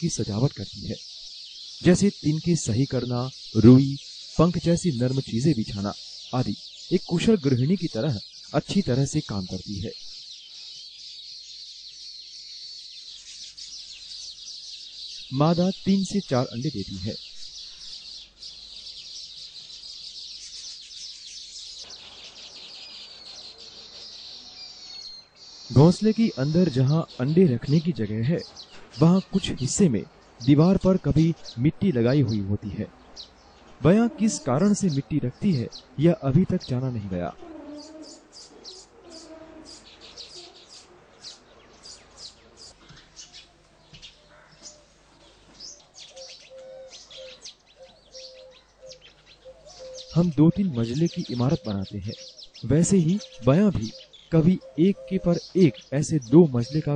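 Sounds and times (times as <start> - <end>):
weaver birds chattering: 0.0 - 56.9.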